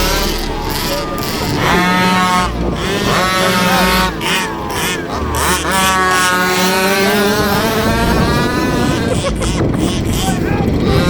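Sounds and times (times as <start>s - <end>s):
rc car engines revving: 0.0s - 11.0s.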